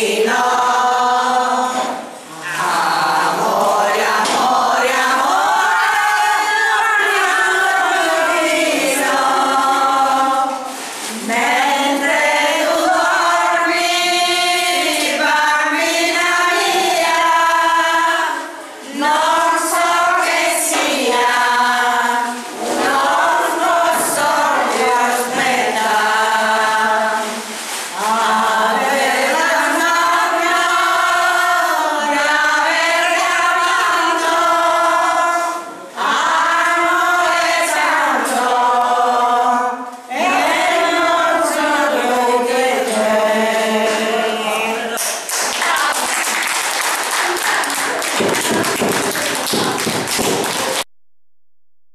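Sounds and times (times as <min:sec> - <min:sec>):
women singing together: 0:00.0 - 0:50.8.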